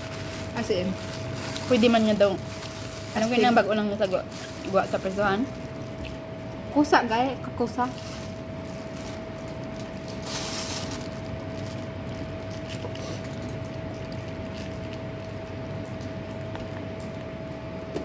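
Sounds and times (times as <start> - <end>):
steady high-pitched hum: 0.0 - 18.0.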